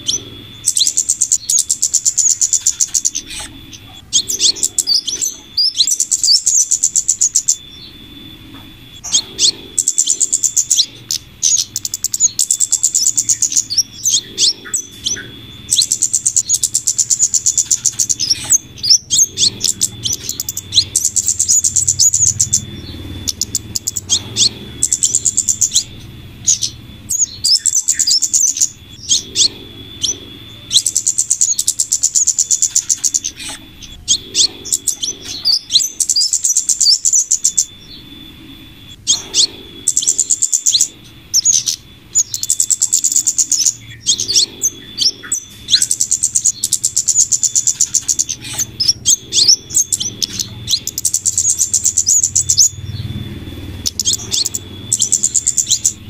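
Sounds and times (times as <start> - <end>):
high rapid chirping bird trills: 0.0 - 56.0
low steady hum: 0.0 - 56.0.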